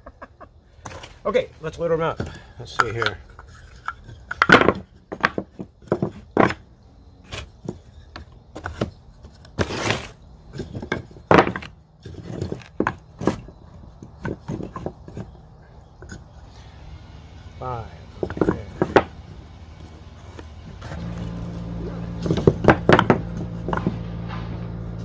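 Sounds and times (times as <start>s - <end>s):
wooden pieces clacking and knocking: 0.0s - 16.5s, 18.1s - 21.1s, 22.1s - 24.8s.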